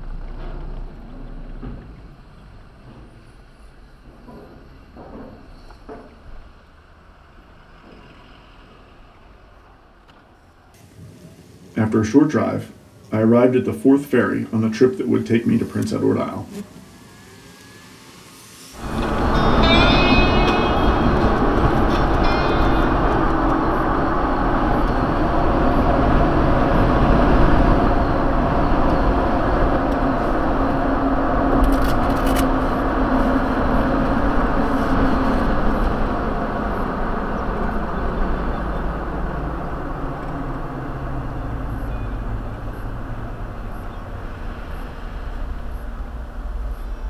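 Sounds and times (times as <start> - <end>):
road vehicle driving: 0.0 - 47.0.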